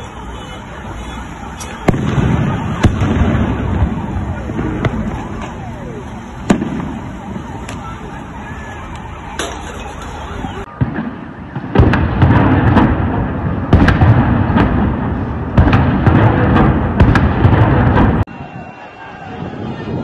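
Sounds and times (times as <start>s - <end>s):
heavy echoing explosions: 0.0s - 8.5s, 10.6s - 18.3s
sharp bangs: 0.0s - 18.3s
large crowd noise: 0.0s - 20.0s.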